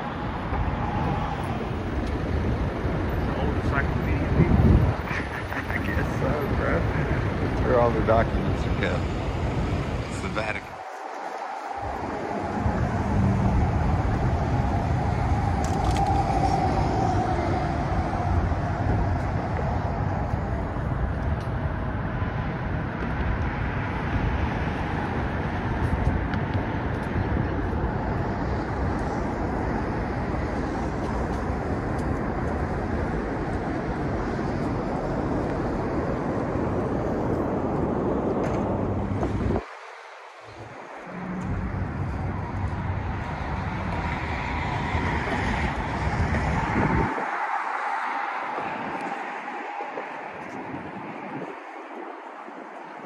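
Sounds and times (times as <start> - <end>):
moving vehicle rumble: 0.0 - 53.0.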